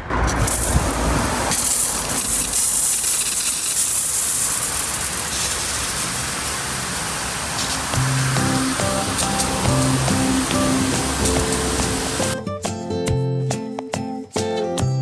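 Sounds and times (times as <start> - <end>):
sprinkler spraying water: 0.3 - 12.4.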